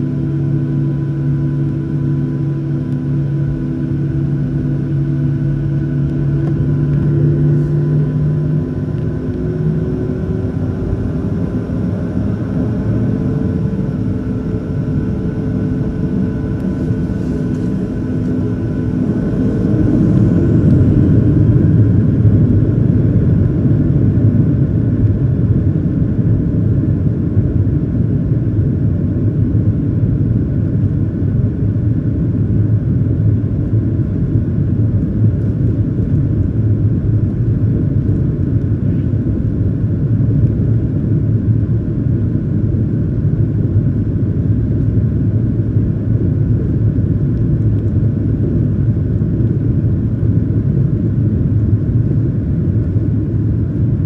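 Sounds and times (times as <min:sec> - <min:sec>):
jet engines whining and rumbling: 0:00.0 - 0:54.0.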